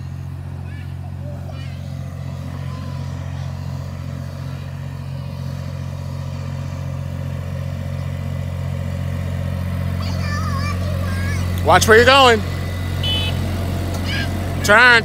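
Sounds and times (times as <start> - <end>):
tractor engine drone with mower: 0.0 - 15.0.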